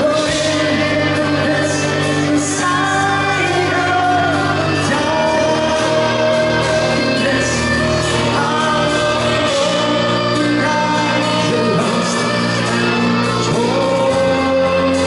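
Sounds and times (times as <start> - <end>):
amplified cellos: 0.0 - 15.0
drums: 0.0 - 15.0
man singing: 0.0 - 15.0.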